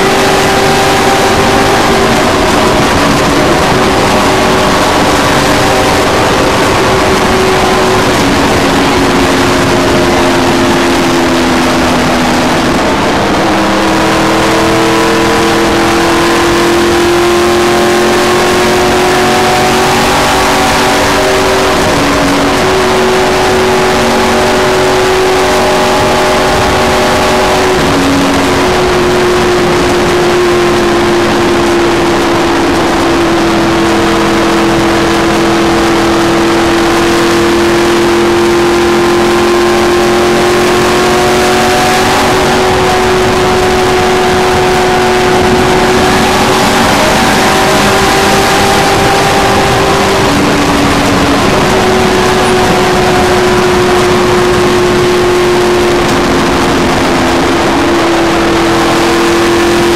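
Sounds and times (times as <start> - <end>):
race car engine at speed: 0.0 - 59.9.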